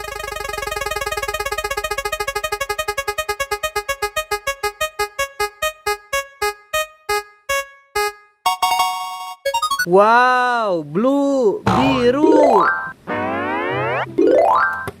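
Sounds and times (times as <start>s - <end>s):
repeated electronic keyboard note: 0.0s - 9.9s, 11.7s - 15.0s.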